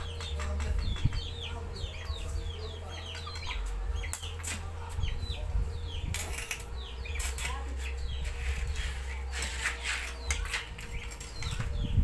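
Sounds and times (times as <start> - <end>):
birds peeping: 0.0 - 12.0
steady low hum: 0.0 - 12.0.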